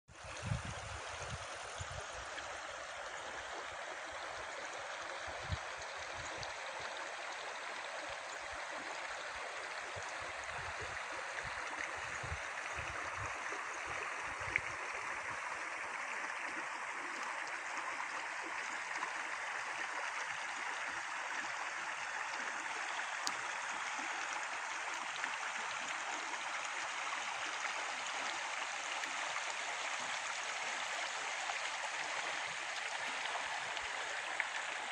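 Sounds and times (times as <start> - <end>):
stream flowing over stones: 0.1 - 34.9.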